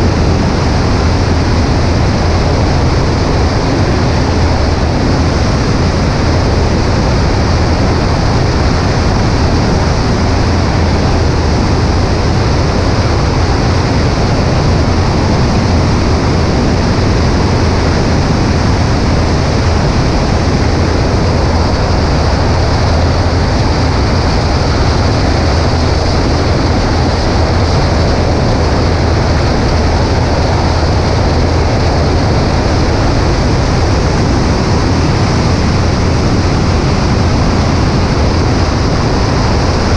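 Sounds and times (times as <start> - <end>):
airplane engine drone: 0.0 - 39.9
wind rushing over camera: 0.0 - 39.9.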